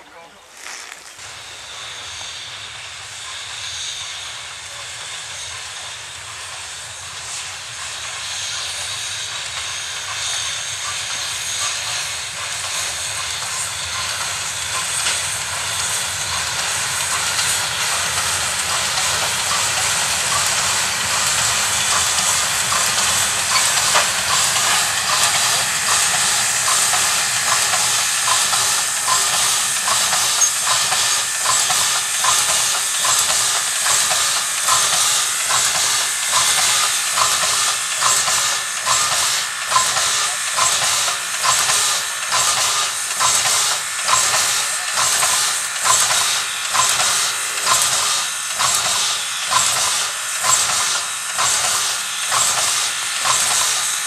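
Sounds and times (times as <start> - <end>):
steam locomotive chuffing: 0.0 - 54.0
steam hissing: 0.1 - 54.0.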